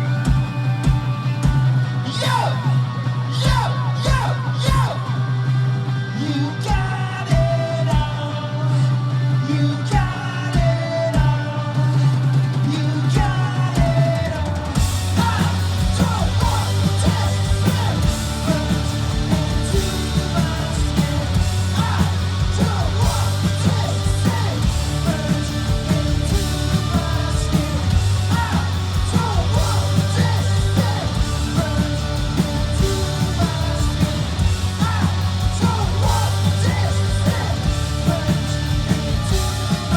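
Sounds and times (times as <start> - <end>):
garage punk band playing live: 0.0 - 39.9
person singing and yelling: 1.5 - 5.3, 6.1 - 39.9.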